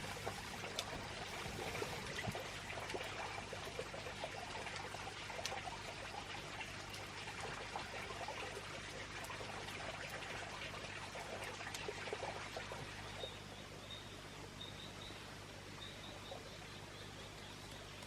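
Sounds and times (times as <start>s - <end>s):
small water drips: 0.0s - 18.0s
water trickling and splashing: 0.0s - 18.0s.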